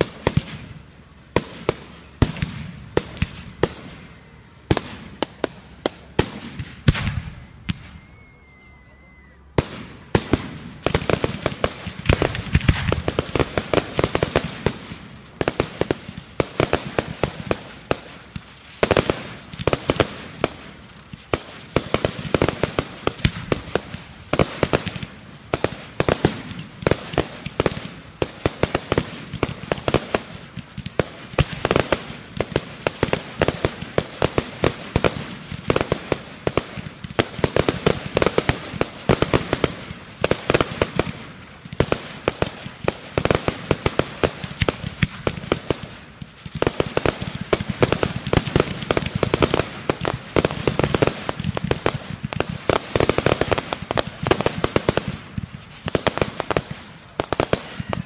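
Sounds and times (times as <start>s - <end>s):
fireworks cracking and banging: 0.0s - 58.0s.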